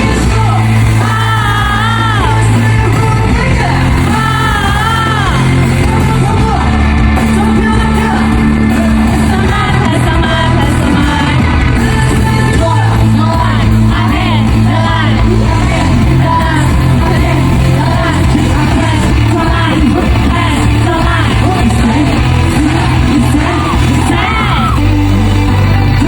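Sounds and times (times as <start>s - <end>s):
fans shouting and cheering: 0.0s - 26.0s
person singing: 0.0s - 26.0s
pop concert music over sound system: 0.0s - 26.0s.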